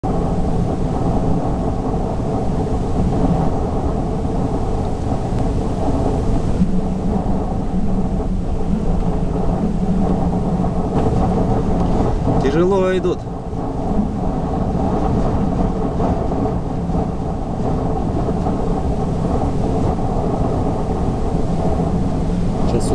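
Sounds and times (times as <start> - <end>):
steady low hum: 0.0 - 22.9
wind buffeting microphone: 0.0 - 22.9.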